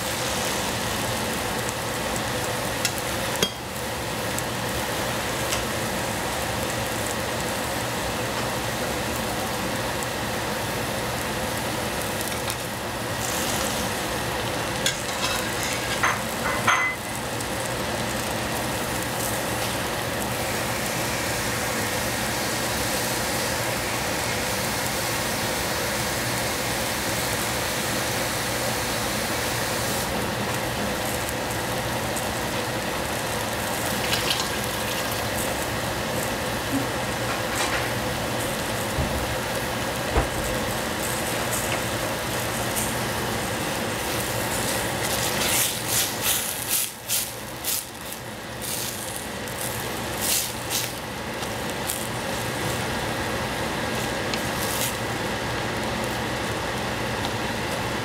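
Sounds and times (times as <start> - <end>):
vegetables sizzling in a saucepan: 0.0 - 58.0.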